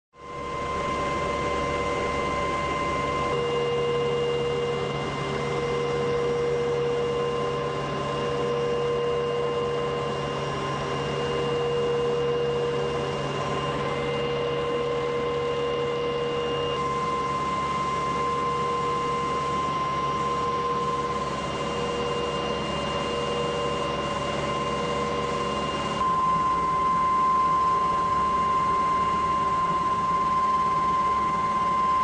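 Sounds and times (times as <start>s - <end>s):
helicopter engine whine: 0.2s - 32.0s.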